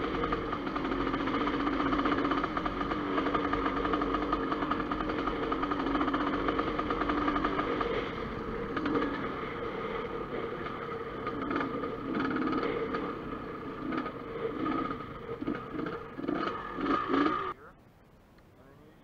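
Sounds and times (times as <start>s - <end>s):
dirt bike engine running: 0.0s - 17.6s.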